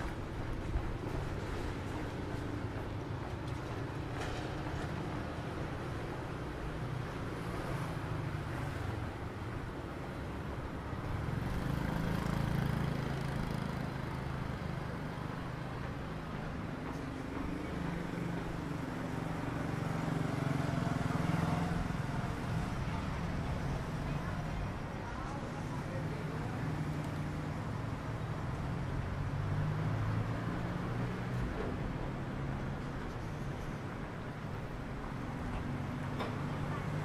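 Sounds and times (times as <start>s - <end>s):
street traffic passing: 0.0s - 37.0s.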